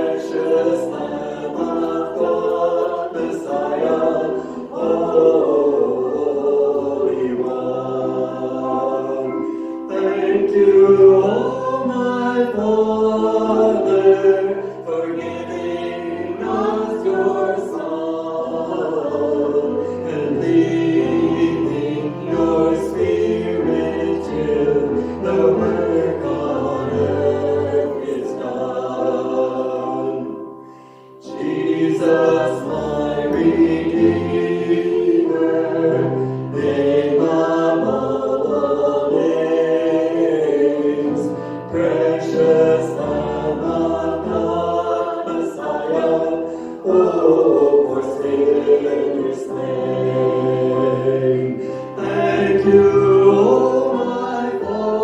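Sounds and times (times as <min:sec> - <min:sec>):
choir singing a worship song: 0:00.0 - 0:55.0.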